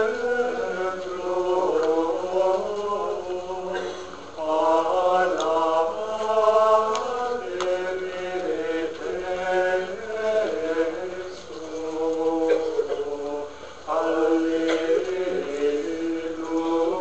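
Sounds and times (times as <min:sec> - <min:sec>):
men chanting plainchant: 0:00.0 - 0:17.0.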